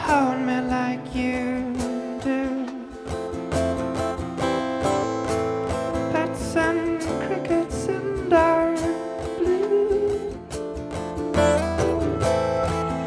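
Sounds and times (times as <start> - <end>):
strummed acoustic guitar: 0.0 - 13.0
folk band playing: 2.5 - 13.0.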